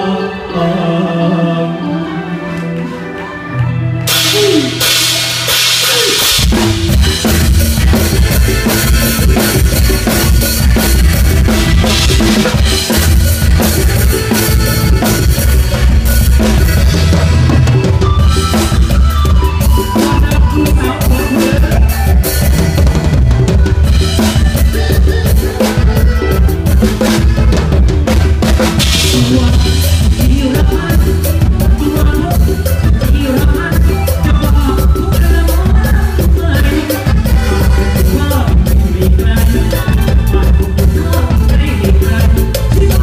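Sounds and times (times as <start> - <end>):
band music: 0.0 - 43.0.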